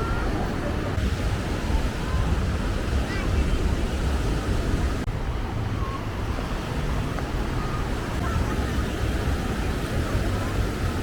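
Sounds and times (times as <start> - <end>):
faint distant voices: 0.0 - 11.0
surf rushing: 0.0 - 11.0
wind rumbling on microphone: 0.0 - 11.0.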